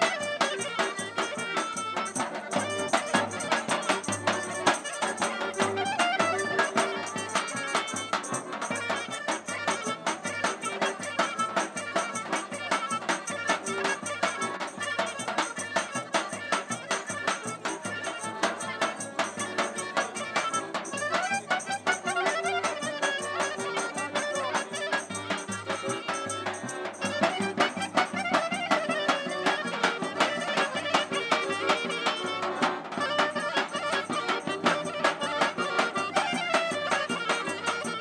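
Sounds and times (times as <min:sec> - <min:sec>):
accordion: 0:00.0 - 0:38.0
clarinet melody: 0:00.0 - 0:38.0.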